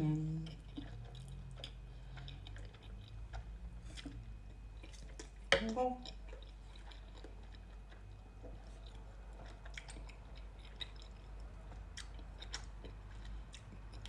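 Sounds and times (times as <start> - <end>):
person chewing noodles: 0.0 - 14.0.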